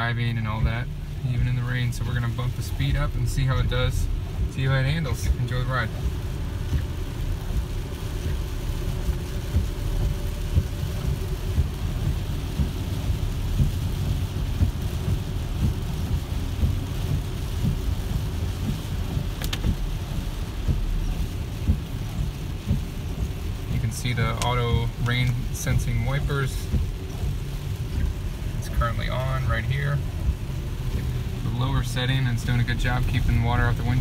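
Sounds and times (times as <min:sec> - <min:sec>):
heavy rain on a car: 0:00.0 - 0:34.0
tyres on a wet road: 0:00.0 - 0:34.0.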